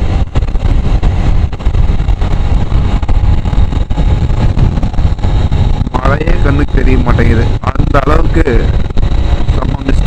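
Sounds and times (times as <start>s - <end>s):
motorcycle engine rumble: 0.0s - 10.0s
wind on microphone: 0.0s - 10.0s.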